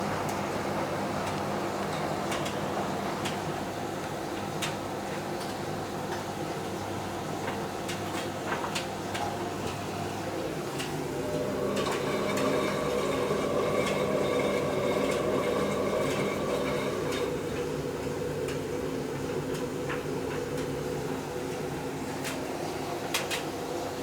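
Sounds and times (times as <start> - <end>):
laundry machine motor hum: 0.0 - 24.0.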